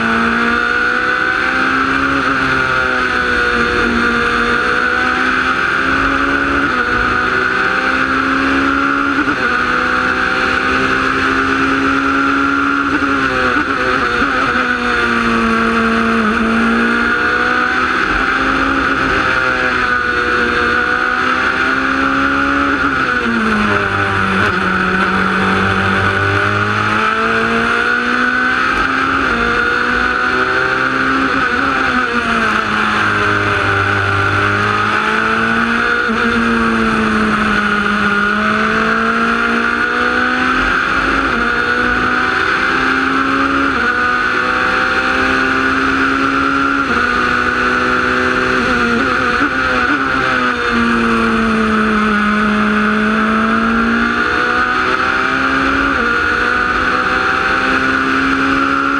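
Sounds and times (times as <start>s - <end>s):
race car engine accelerating: 0.0s - 58.9s.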